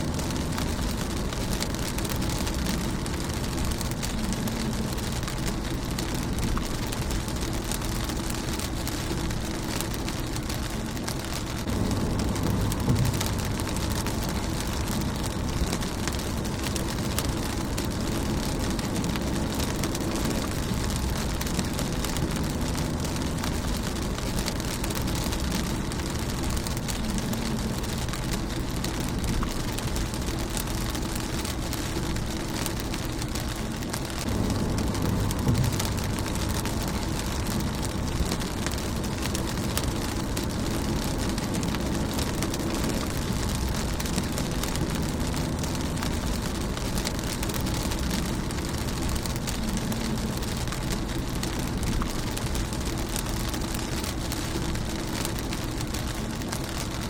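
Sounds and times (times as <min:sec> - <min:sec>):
low rumble: 0:00.0 - 0:57.0
rain on windshield: 0:00.0 - 0:57.0.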